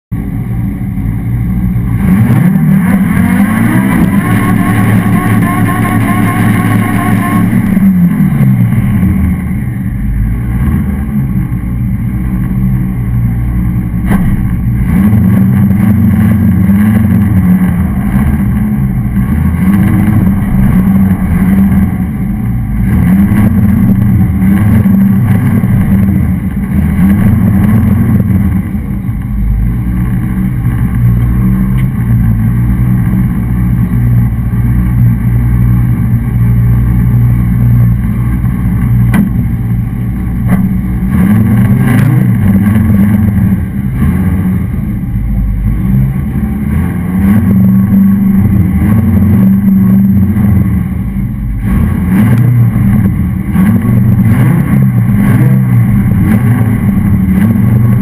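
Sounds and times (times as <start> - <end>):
car engine revving: 0.2 - 58.0.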